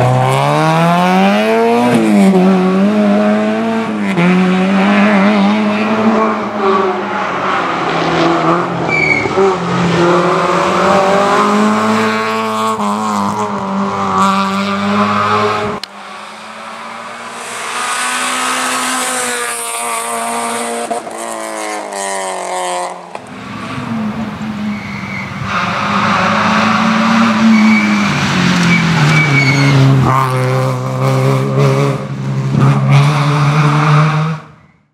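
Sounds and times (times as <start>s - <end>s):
rally car engine revving: 0.0s - 34.6s.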